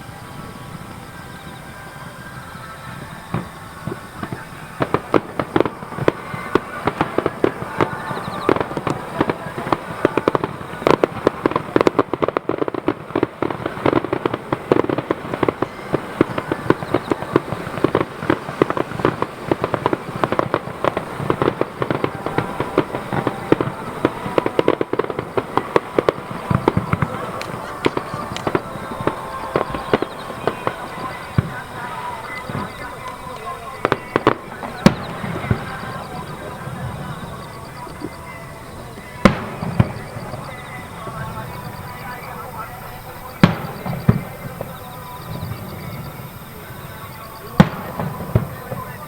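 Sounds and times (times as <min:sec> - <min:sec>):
fireworks banging and crackling: 0:00.0 - 0:49.0.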